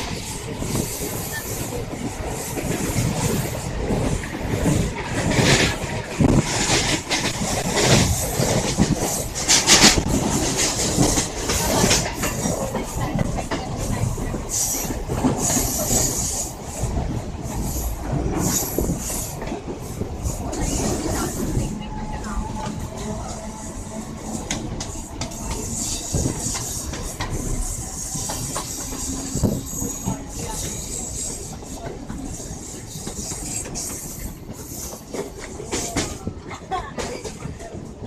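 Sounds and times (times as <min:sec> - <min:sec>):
train wheels clattering: 0:00.0 - 0:38.0.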